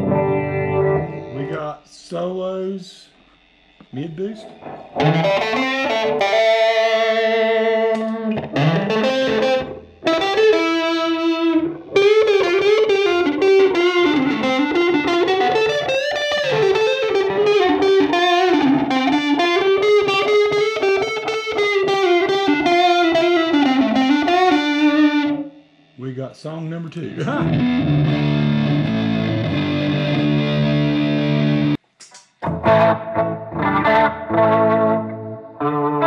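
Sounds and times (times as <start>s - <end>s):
electric guitar solo: 0.0s - 1.8s, 4.4s - 25.7s, 27.2s - 31.8s, 32.4s - 36.0s.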